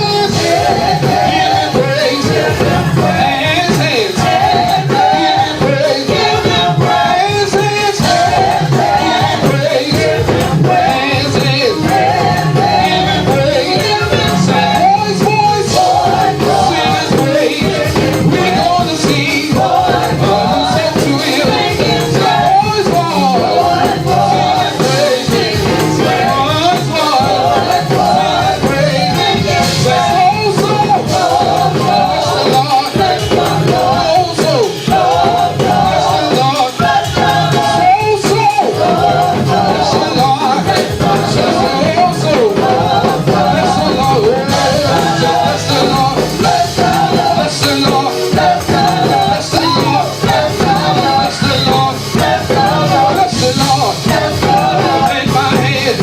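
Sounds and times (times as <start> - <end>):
live gospel music with singing: 0.0 - 56.0.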